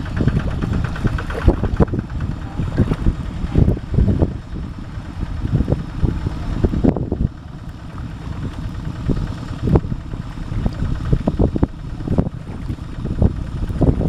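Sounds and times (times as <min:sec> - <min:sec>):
diesel tractor engine chugging: 0:00.0 - 0:14.0.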